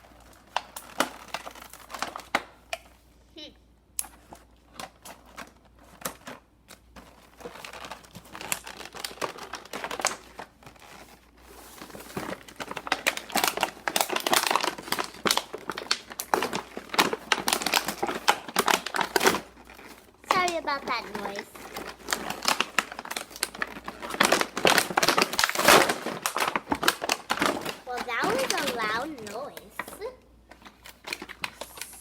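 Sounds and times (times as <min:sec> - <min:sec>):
packaging crinkling: 0:00.0 - 0:03.0, 0:04.0 - 0:32.0.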